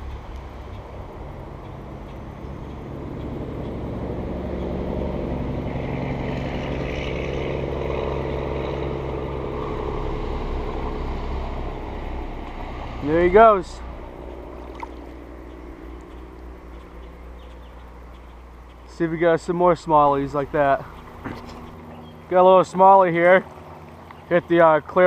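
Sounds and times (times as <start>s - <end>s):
motor droning: 0.0s - 22.3s.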